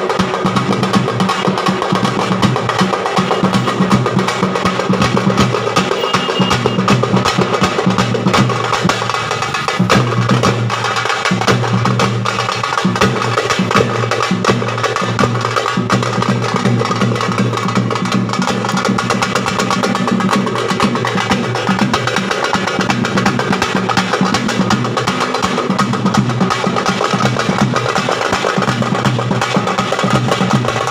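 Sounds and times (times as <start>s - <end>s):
drum set fast rhythm: 0.0s - 30.9s.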